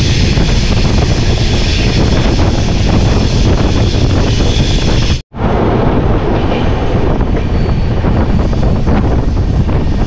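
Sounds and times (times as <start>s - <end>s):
train rushing at speed: 0.0s - 10.0s
wind buffeting microphone: 0.0s - 10.0s.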